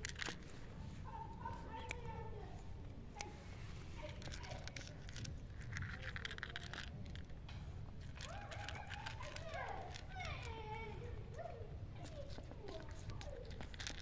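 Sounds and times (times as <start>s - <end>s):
cat crunching dry kibble: 0.0s - 1.0s, 1.6s - 14.0s.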